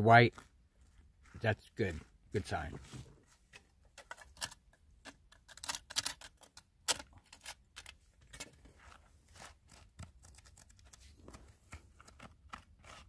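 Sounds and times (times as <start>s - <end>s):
hand pick scraping dirt: 0.1s - 13.0s.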